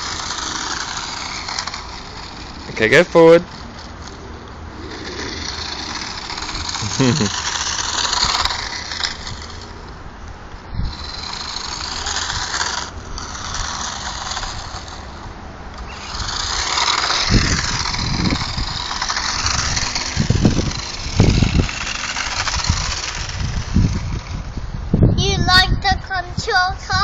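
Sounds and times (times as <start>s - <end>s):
plastic wheels rolling on concrete: 0.0s - 24.6s
small electric motor whirring: 0.0s - 24.8s.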